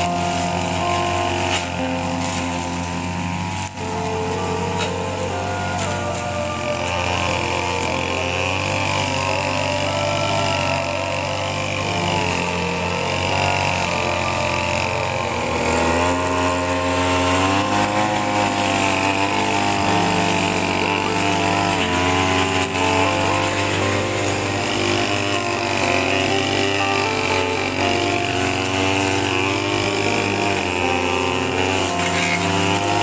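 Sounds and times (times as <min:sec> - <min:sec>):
background music: 0:00.0 - 0:33.0
brush cutter engine cutting grass: 0:00.0 - 0:33.0.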